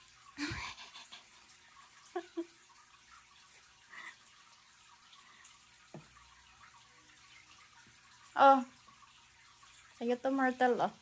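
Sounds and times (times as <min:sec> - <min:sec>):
small water splashes and drips: 0:00.0 - 0:11.0.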